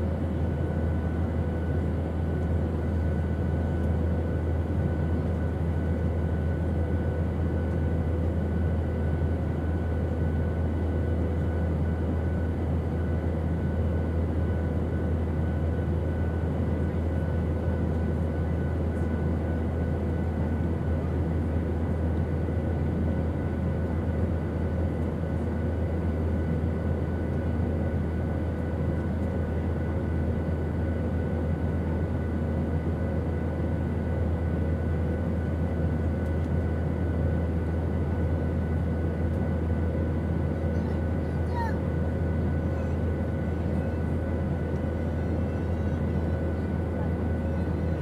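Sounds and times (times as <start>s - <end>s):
airplane engine drone: 0.0s - 48.0s.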